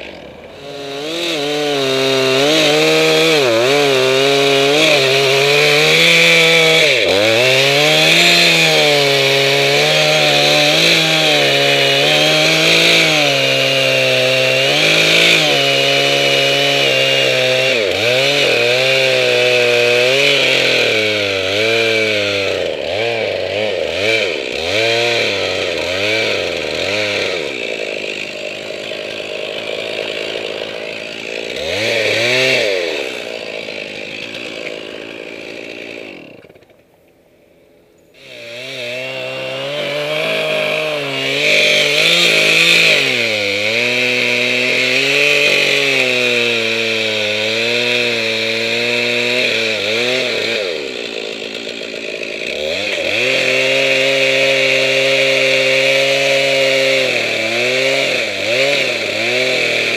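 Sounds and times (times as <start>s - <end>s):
chainsaw revving: 0.0s - 37.2s, 38.1s - 59.9s.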